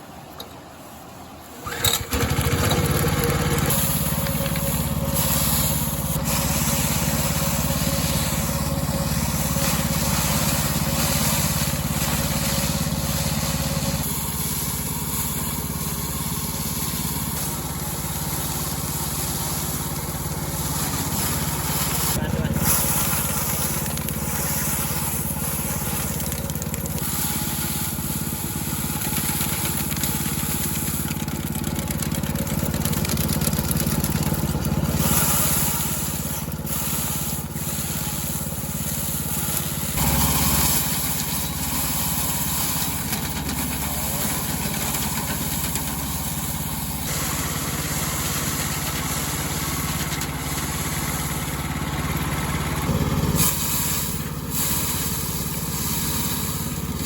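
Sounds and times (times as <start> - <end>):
small engine running: 1.6 - 57.0.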